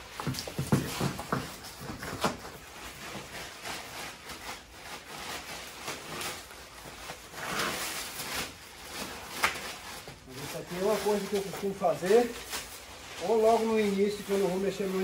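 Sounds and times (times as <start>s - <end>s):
plastic tarp scraping on dirt: 2.6s - 15.0s.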